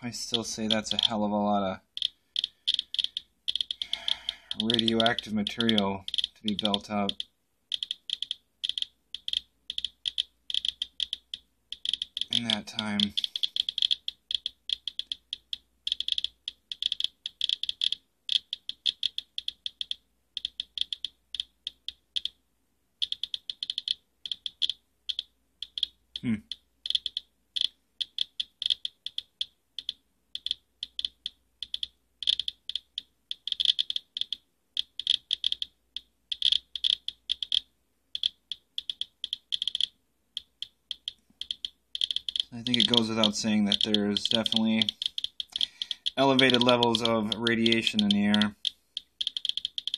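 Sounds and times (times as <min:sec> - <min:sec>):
geiger counter clicking fast: 0:00.1 - 0:22.4, 0:23.0 - 0:49.9.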